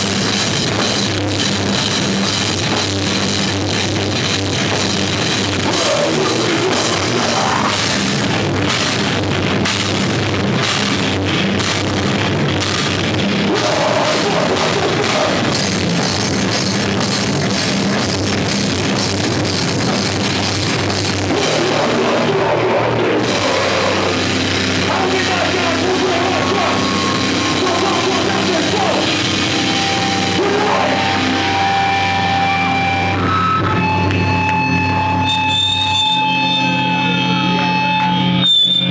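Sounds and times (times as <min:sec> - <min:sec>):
drum kit with crashing cymbals: 0:00.0 - 0:33.2
bass guitar: 0:00.0 - 0:38.9
distorted electric guitars: 0:00.0 - 0:38.9.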